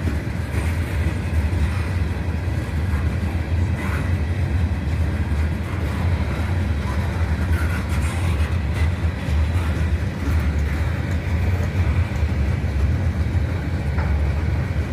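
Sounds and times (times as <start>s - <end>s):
train rumbling on rails: 0.0s - 14.9s.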